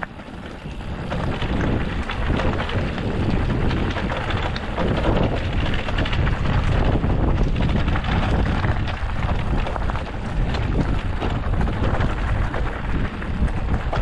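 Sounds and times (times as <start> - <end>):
bike rumbling and rattling on trail: 0.0 - 14.0
wind buffeting microphone: 0.0 - 14.0.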